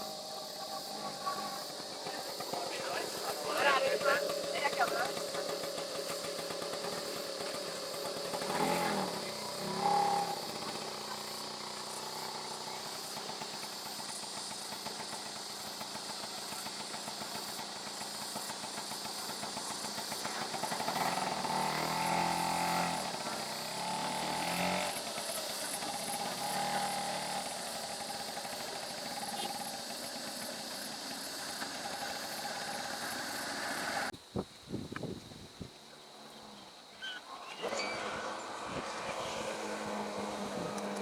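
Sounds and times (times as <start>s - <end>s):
vehicle engine running: 0.0s - 34.2s, 37.6s - 41.0s.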